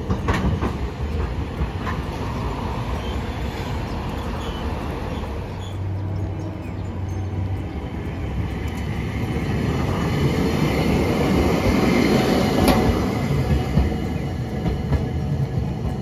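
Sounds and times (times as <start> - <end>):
tram rolling past on track: 0.0 - 16.0.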